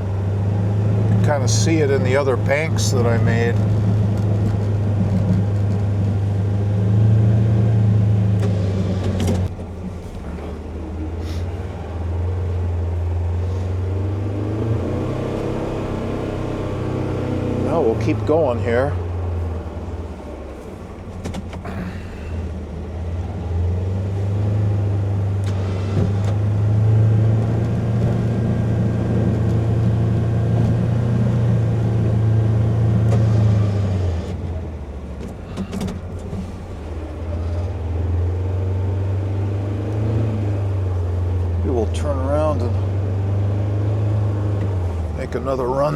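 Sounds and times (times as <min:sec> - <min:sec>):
engine running under load: 0:00.0 - 0:45.9.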